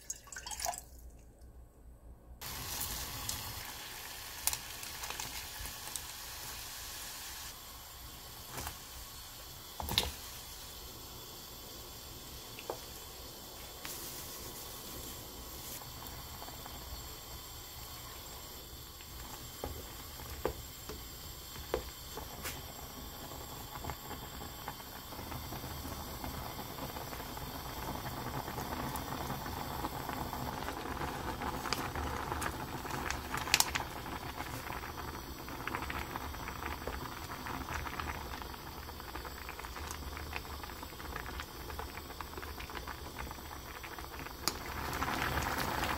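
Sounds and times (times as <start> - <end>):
broth bubbling in a pot: 2.4 - 45.9.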